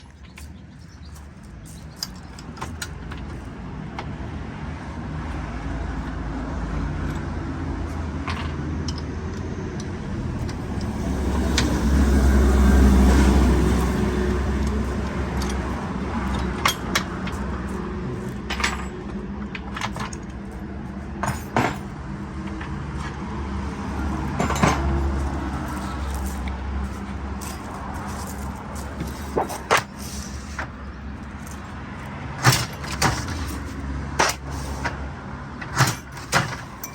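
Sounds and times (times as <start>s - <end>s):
metallic clicks and clanks: 0.0s - 4.4s, 6.0s - 11.8s, 13.2s - 36.9s.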